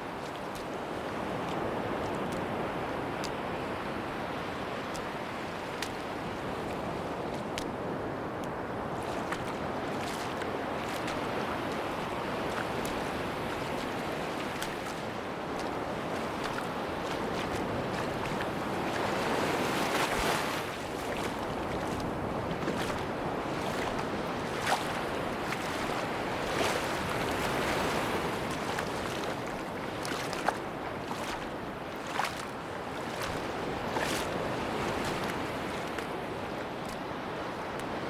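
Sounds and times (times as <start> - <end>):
sea waves washing onto beach: 0.0 - 38.0.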